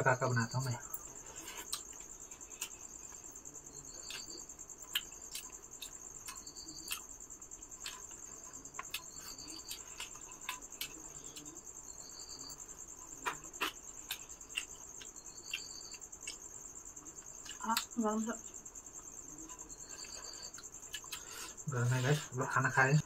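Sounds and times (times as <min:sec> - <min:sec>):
crickets trilling: 0:00.0 - 0:23.0
lower cricket chirp: 0:00.0 - 0:23.0
people eating by hand: 0:00.1 - 0:17.9, 0:18.9 - 0:23.0.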